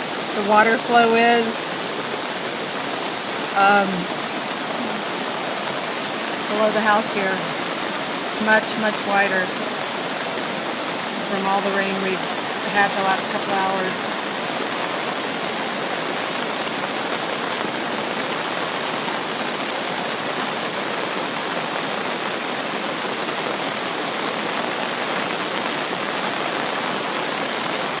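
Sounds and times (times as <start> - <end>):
flood water rushing: 0.0 - 28.0.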